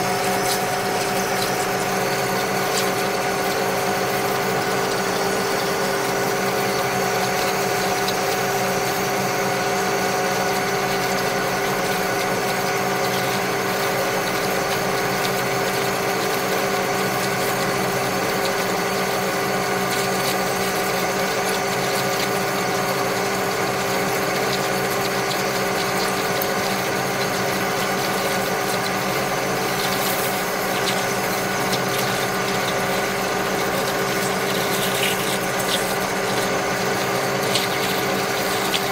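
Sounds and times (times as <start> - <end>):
metal lathe humming and whining: 0.0 - 38.9.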